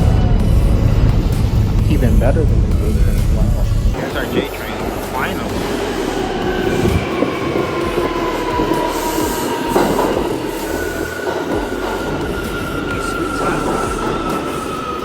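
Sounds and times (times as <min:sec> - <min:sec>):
train wheels rumbling: 0:00.0 - 0:15.0
wheels squealing: 0:00.0 - 0:15.0
train clunk: 0:00.2 - 0:15.0.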